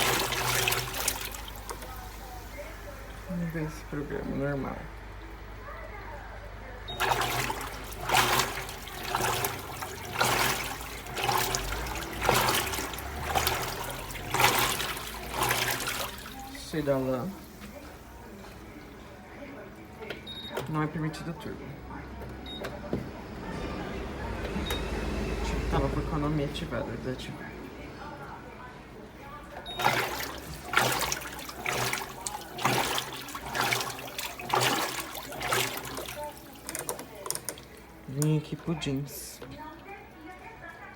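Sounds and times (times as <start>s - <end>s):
water sloshing in washing machine: 0.0s - 40.9s.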